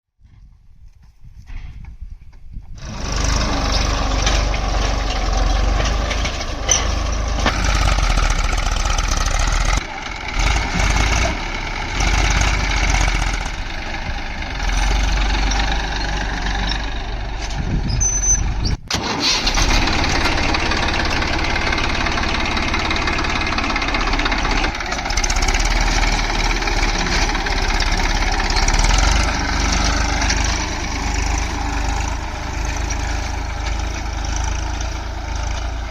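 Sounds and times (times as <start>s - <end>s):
tractor diesel engine running: 2.6s - 35.9s.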